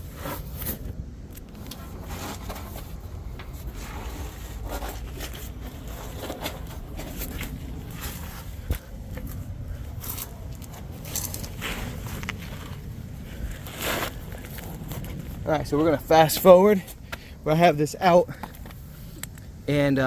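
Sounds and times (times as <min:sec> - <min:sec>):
hands scraping and rustling: 0:00.0 - 0:17.3
low rumble: 0:00.0 - 0:19.7.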